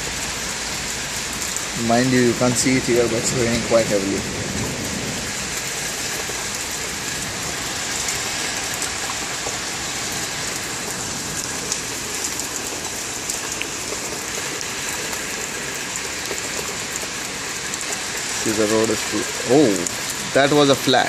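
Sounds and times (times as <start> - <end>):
heavy rain pouring: 0.0 - 21.0
raindrops ticking: 0.1 - 21.0.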